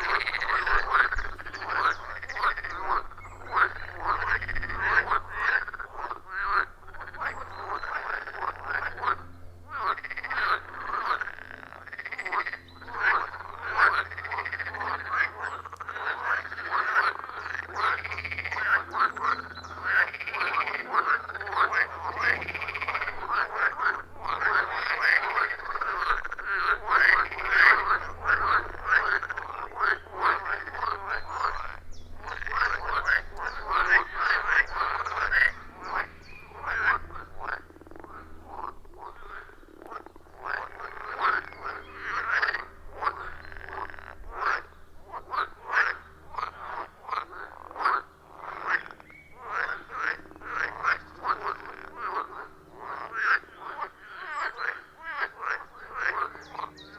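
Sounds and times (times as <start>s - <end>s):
frogs croaking chorus: 0.0s - 56.9s.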